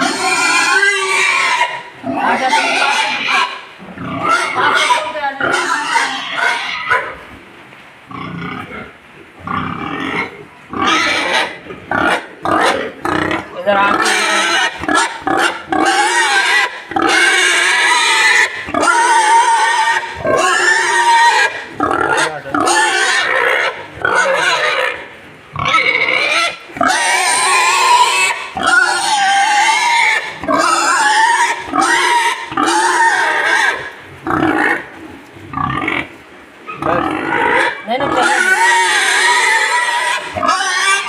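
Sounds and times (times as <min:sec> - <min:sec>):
boar grunting and squealing: 0:00.0 - 0:07.2, 0:08.1 - 0:34.9, 0:36.7 - 0:41.0.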